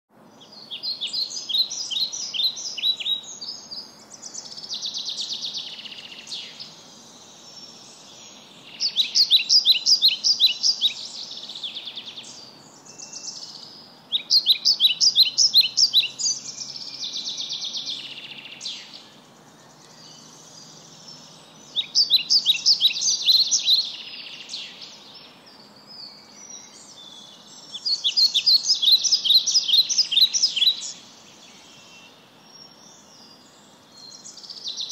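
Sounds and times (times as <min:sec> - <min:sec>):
songbird chirping: 0:00.1 - 0:34.9
soft hissy bird calls: 0:00.2 - 0:34.9.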